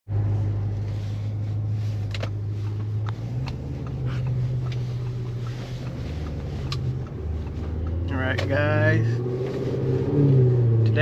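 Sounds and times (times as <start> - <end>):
car engine drone in cabin: 0.1 - 11.0.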